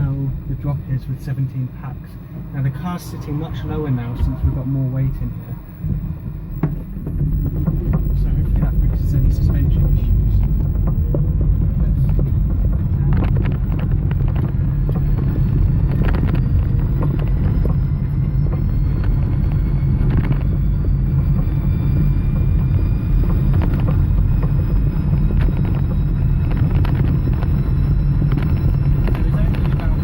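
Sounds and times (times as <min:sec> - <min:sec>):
electric motor whine: 0:00.0 - 0:30.0
road rumble: 0:00.0 - 0:30.0.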